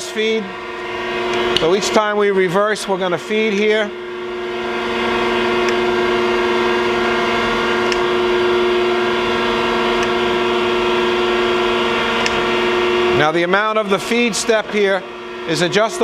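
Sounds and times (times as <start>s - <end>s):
grinder humming whine: 0.0s - 16.0s.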